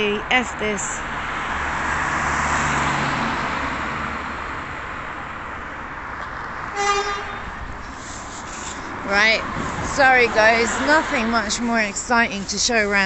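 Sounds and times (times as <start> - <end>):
car passing by: 0.4 - 13.0.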